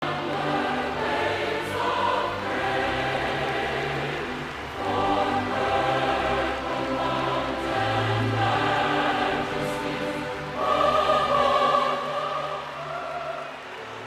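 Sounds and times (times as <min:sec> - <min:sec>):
choir singing sustained notes: 0:00.0 - 0:14.0.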